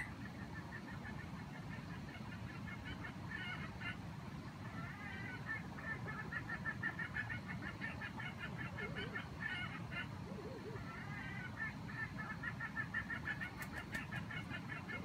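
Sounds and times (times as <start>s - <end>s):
jungle chicken calling: 0.0s - 15.0s.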